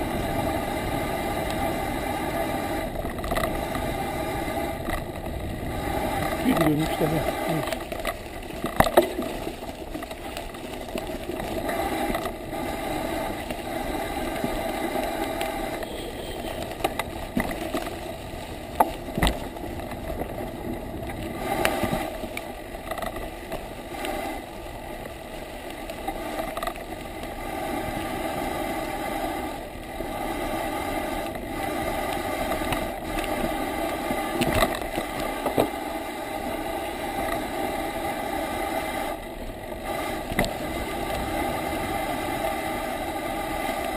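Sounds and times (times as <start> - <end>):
bicycle tyres rolling: 0.0 - 43.9
bike rattling: 0.0 - 43.9.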